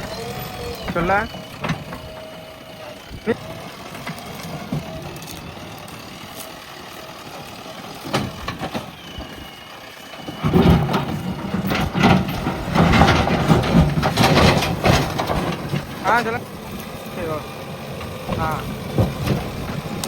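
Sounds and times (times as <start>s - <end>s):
diesel engine running: 0.0s - 20.0s
wood cracking and crunching: 0.0s - 20.0s.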